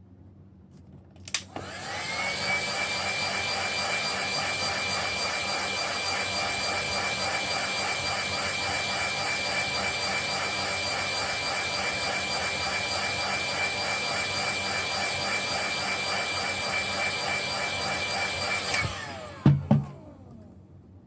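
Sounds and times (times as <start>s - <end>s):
small electric motor whining: 1.6s - 20.1s.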